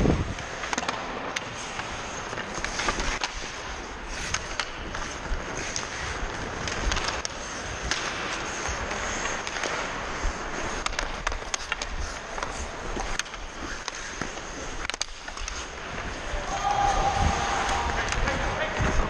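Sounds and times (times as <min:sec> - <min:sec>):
skates scraping on ice: 0:00.0 - 0:19.0
hockey sticks clacking on ice: 0:00.3 - 0:19.0.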